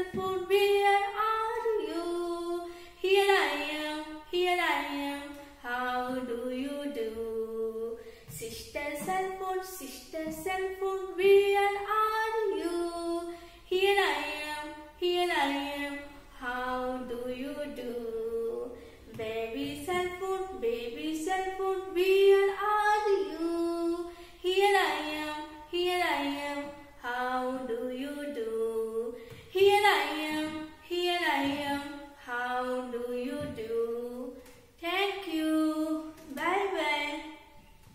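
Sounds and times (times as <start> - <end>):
woman singing unaccompanied: 0.0 - 37.6.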